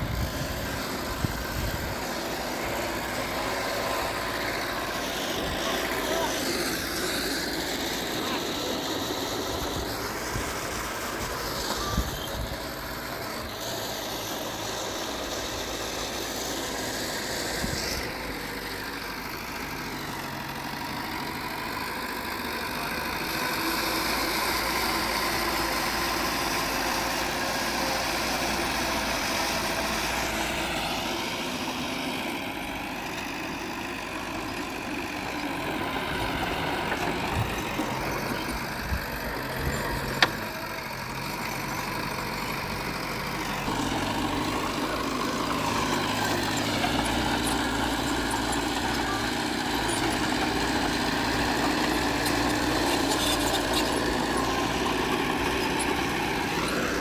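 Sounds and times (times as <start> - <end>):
diesel earthmoving machinery running: 0.0 - 57.0.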